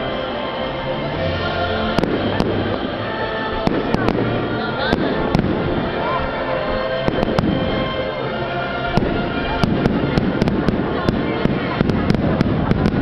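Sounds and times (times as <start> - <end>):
crowd noise: 0.0 - 13.0
faint music: 0.0 - 13.0
fireworks cracking and banging: 1.2 - 8.2, 8.8 - 13.0.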